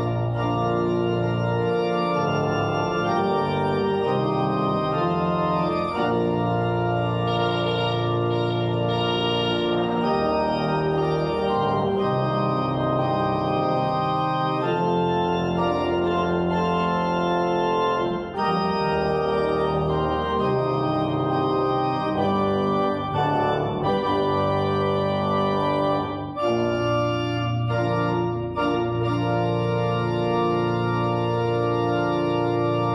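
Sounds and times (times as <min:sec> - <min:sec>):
church organ fanfare: 0:00.0 - 0:32.9.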